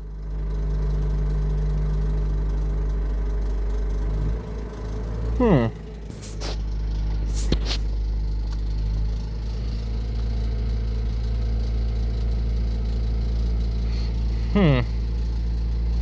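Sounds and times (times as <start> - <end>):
car engine idling: 0.0 - 16.0
engine rattle: 0.0 - 16.0.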